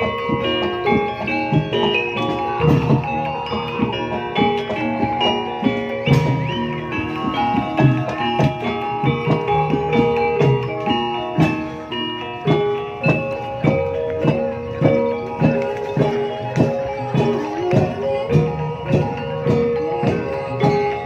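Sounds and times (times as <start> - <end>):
drum strokes: 0.0 - 21.0
struck metal keyed instruments: 0.0 - 21.0.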